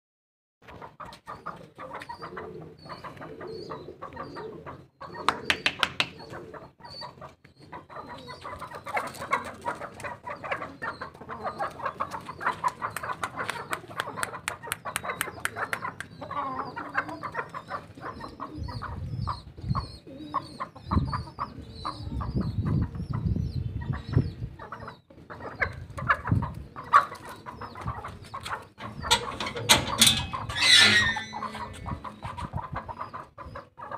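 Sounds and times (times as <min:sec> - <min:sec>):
chickens clucking: 0:00.6 - 0:33.9.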